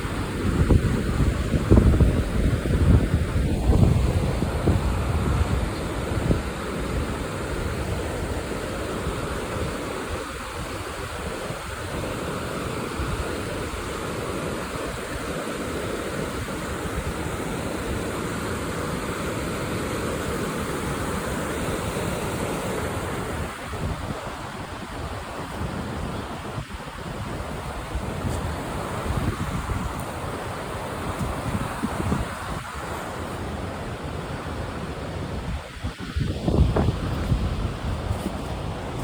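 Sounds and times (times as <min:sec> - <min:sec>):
water rushing over rocks: 0:00.0 - 0:39.0
wind buffeting microphone: 0:00.0 - 0:39.0.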